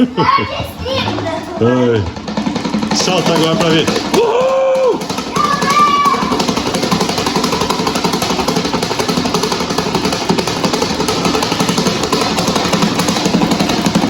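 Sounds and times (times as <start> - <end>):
electric fan air rush: 0.0 - 14.0
fan rattling: 0.0 - 14.0.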